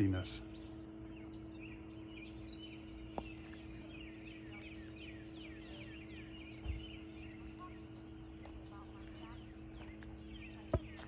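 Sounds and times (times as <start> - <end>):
songbirds chirping and singing: 0.0 - 11.0
steady low hum: 0.0 - 11.0.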